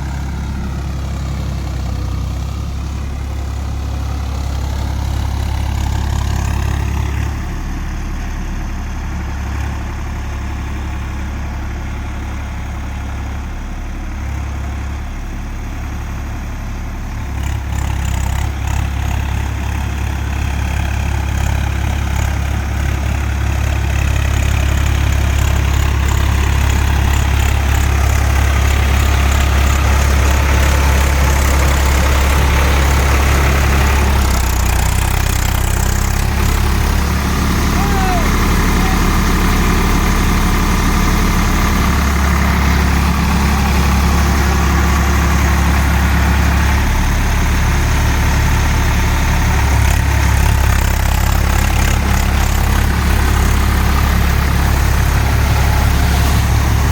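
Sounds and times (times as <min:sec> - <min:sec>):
tractor diesel engine humming: 0:00.0 - 0:56.9.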